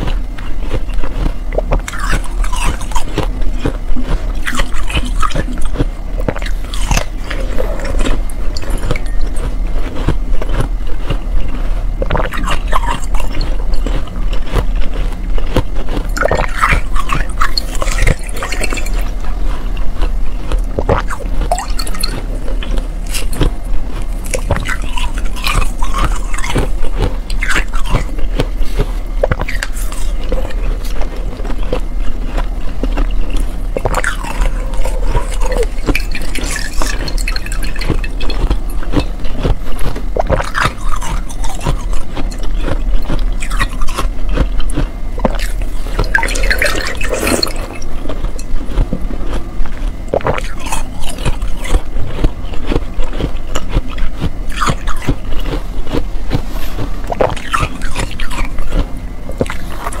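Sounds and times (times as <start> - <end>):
crunchy bites of slush ice: 0.0 - 60.0
wet sucking and slurping: 0.8 - 60.0.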